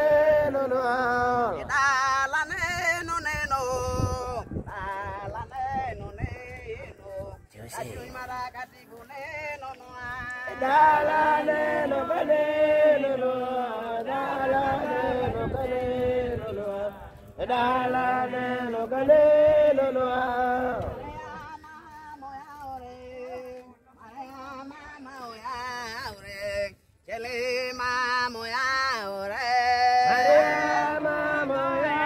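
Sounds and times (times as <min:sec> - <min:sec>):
group singing a chant: 0:00.0 - 0:07.3, 0:07.9 - 0:32.0.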